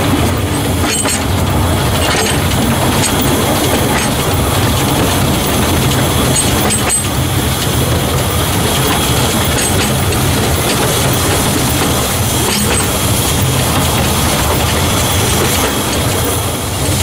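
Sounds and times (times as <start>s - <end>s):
sharp rail clicks: 0.0s - 17.0s
steam locomotive running: 0.0s - 17.0s.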